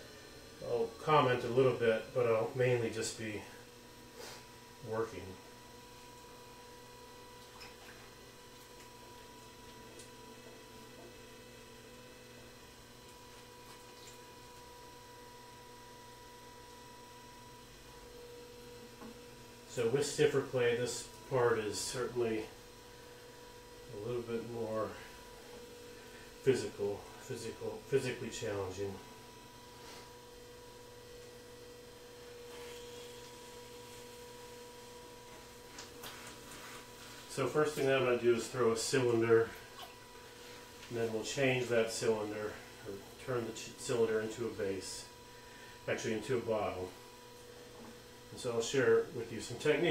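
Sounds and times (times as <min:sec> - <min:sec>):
electric motor hum: 0:00.0 - 0:49.9.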